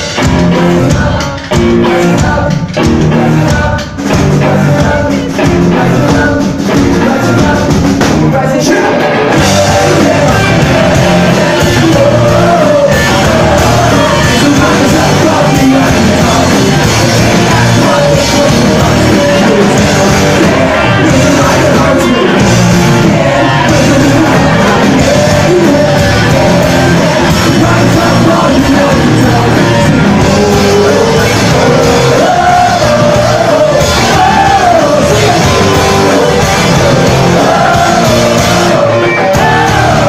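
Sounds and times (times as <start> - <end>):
lead vocal singing and shouting: 0.0 - 40.0
live pop-punk band: 0.0 - 40.0.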